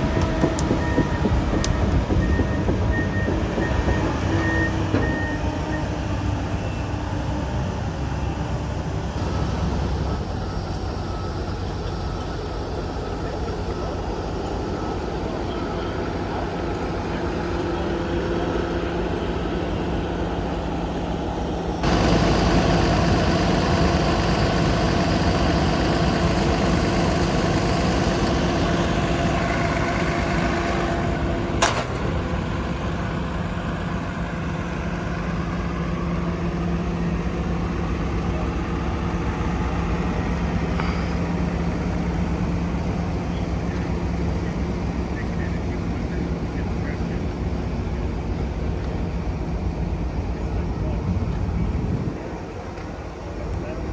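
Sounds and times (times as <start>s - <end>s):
steady machine whine: 0.0s - 53.8s
excavator diesel engine running: 0.0s - 53.9s.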